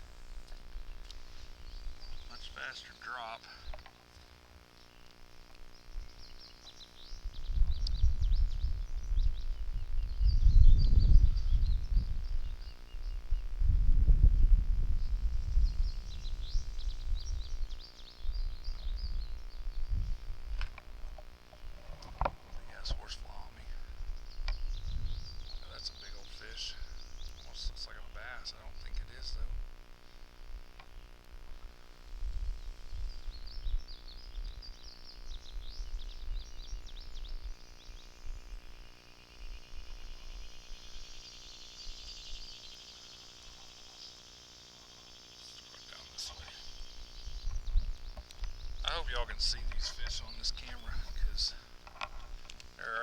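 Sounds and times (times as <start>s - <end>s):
low uneven rumble: 0.0s - 53.0s
songbird twittering: 0.0s - 53.0s.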